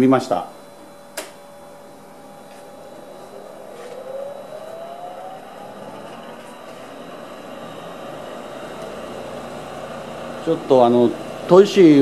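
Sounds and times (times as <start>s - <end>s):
electric motor whine rising: 0.6s - 12.0s.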